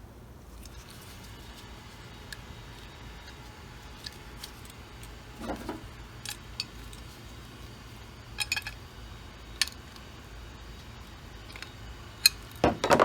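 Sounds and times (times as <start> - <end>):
metal parts clicking and clinking: 0.6 - 8.9, 9.5 - 10.1, 10.8 - 13.0.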